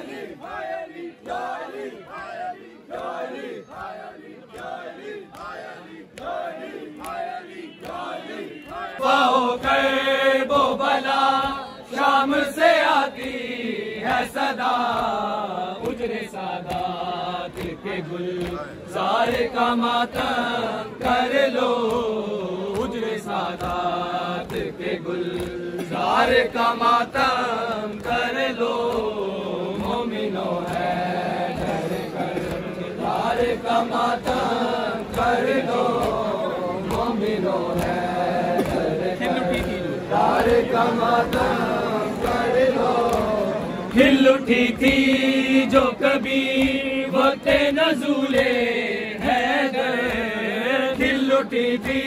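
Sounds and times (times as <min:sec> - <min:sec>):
men chanting a lament: 0:00.0 - 0:52.0.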